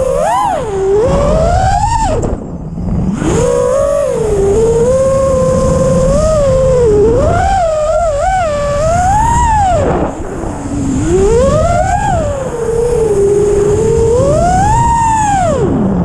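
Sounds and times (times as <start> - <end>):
quadcopter motors whining: 0.0 - 16.0
steady rushing noise: 0.0 - 16.0.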